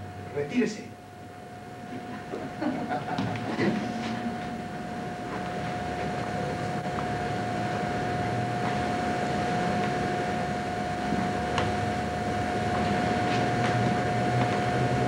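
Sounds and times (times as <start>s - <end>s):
constant high whine: 0.0s - 15.0s
steady hum and hiss: 0.0s - 15.0s.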